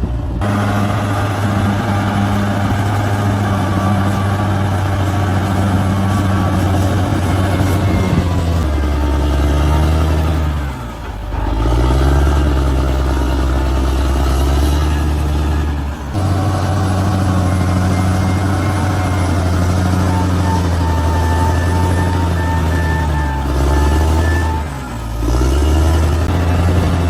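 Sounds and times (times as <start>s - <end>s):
bulldozer diesel engine under load: 0.0s - 27.0s.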